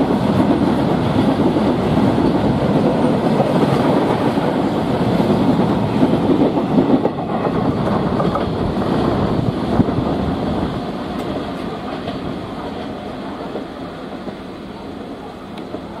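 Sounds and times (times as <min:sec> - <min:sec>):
train wagons clickety-clack: 0:00.0 - 0:16.0.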